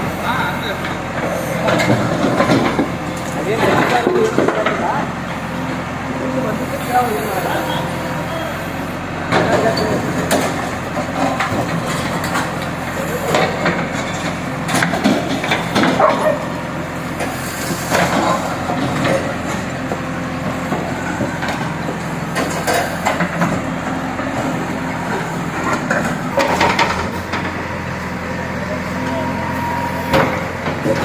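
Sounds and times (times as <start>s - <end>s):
diesel engine running: 0.0s - 31.0s
people talking: 0.0s - 31.0s.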